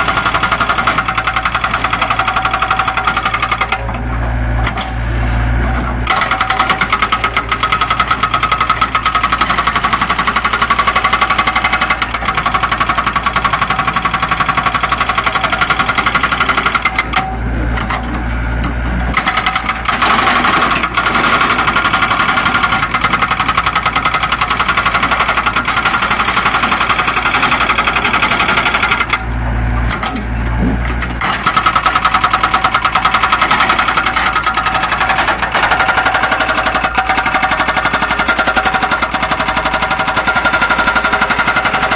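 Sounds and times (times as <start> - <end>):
excavator engine rattling clatter: 0.0 - 41.9.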